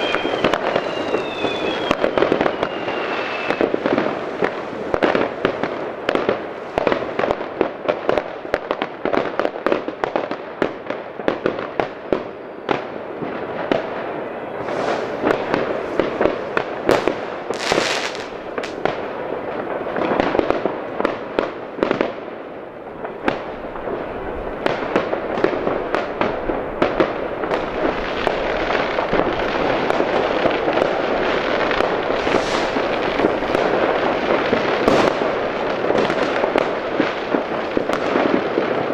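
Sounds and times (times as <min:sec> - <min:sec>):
background crackle: 0:00.0 - 0:38.9
distant fireworks bangs and pops: 0:00.0 - 0:38.9.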